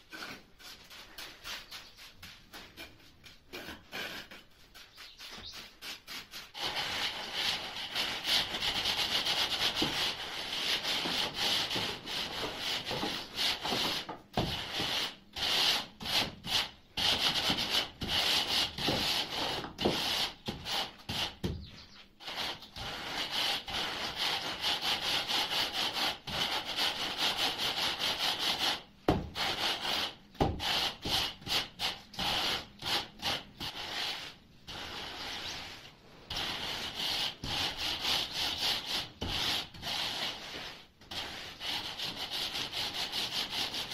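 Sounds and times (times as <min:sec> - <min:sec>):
metal bar scraping mortar: 0:00.0 - 0:28.0, 0:29.3 - 0:43.9.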